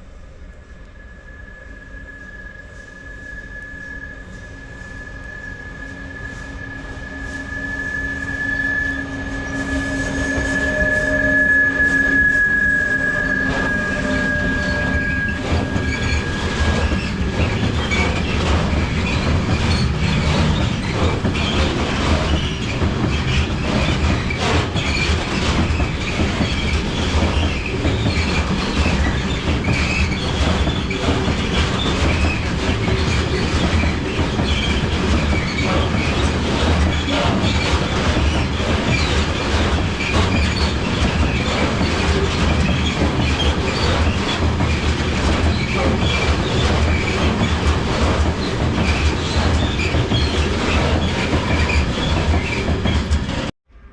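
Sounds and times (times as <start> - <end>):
high wheel squeal: 0.9 - 53.5
freight train wheels clattering: 5.6 - 53.5.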